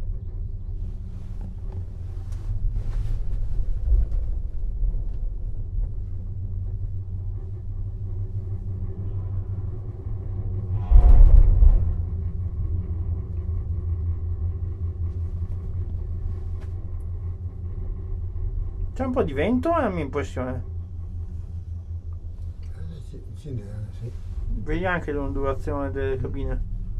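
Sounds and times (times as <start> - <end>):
gondola cabin low rumble: 0.0 - 26.9.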